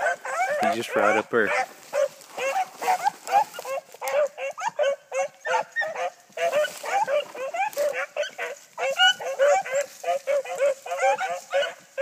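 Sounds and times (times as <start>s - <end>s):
hunting dogs baying: 0.0s - 12.0s.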